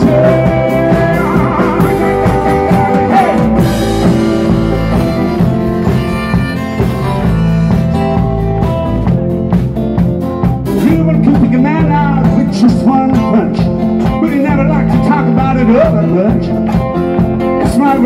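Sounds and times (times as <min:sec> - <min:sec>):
bass guitar: 0:00.0 - 0:18.0
drum kit: 0:00.0 - 0:18.0
electric guitars: 0:00.0 - 0:18.0.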